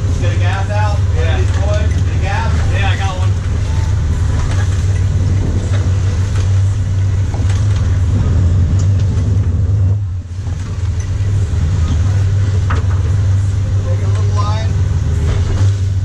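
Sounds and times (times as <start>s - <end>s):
boat engines humming: 0.0s - 16.0s
water rushing and splashing: 0.0s - 16.0s.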